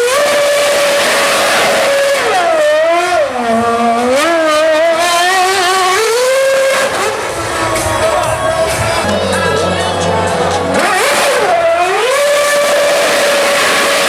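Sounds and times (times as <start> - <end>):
racing car engine revving: 0.0 - 14.0.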